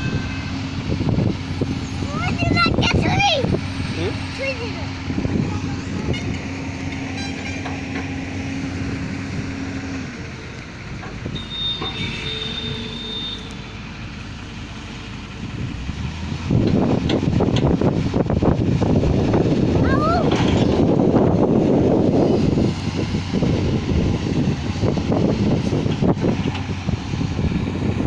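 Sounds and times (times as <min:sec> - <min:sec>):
heavy vehicle engine drone: 0:00.0 - 0:28.0.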